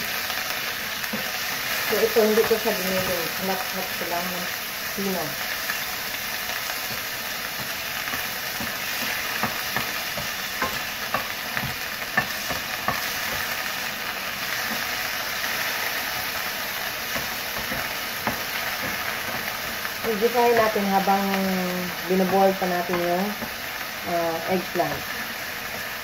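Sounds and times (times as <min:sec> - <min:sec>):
meat sizzling in a frying pan: 0:00.0 - 0:26.0.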